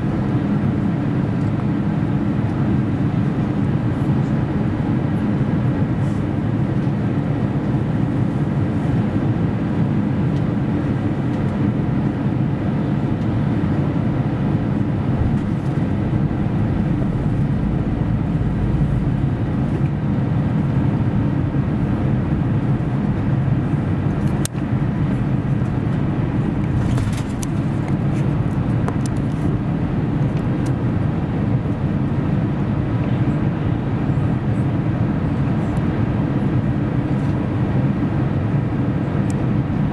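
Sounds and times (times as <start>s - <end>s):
airplane cabin engine hum: 0.0s - 39.9s.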